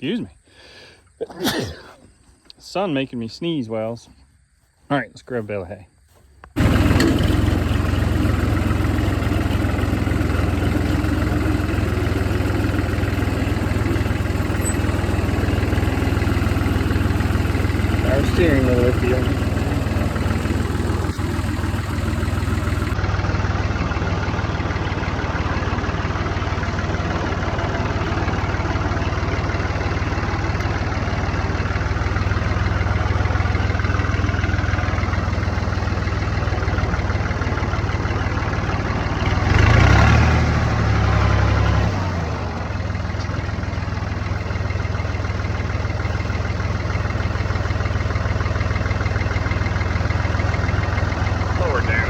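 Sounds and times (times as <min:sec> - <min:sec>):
diesel tractor engine running: 0:06.5 - 0:52.0.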